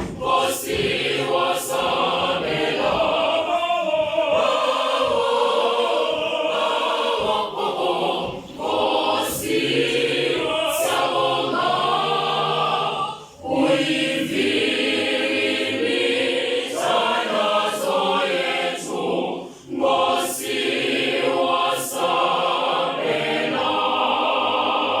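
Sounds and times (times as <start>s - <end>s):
choir singing in harmony: 0.0s - 25.0s.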